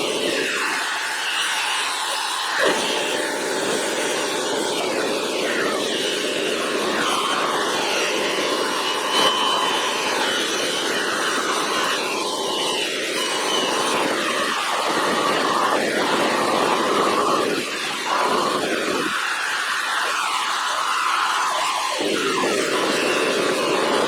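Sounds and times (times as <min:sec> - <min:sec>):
bench polisher motor whine: 0:00.0 - 0:24.0.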